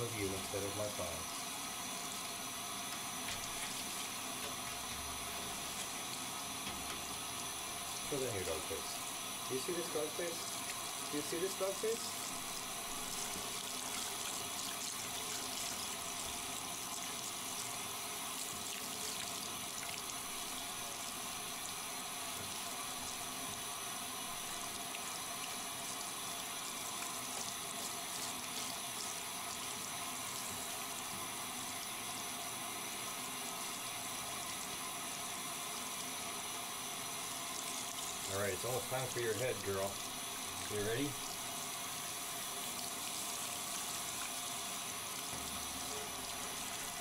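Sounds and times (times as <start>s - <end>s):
shower water spraying and splashing: 0.0s - 47.0s.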